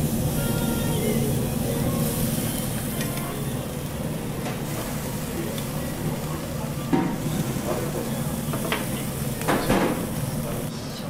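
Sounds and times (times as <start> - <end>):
meat sizzling on a grill: 0.0 - 10.7.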